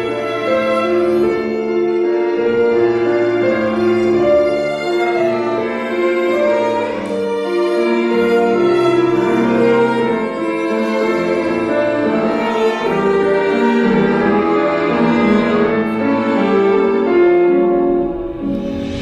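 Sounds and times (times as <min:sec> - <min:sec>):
bowed strings: 0:00.0 - 0:19.0
piano: 0:00.0 - 0:19.0.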